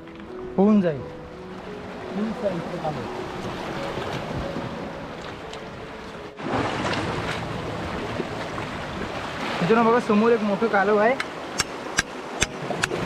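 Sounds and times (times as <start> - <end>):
waves washing over rocks: 1.6 - 13.0.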